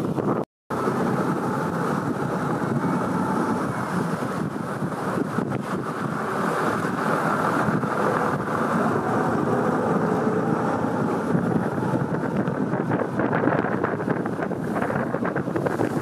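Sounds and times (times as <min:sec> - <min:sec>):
water washing: 0:00.0 - 0:16.0
wind rushing over microphone: 0:00.0 - 0:16.0.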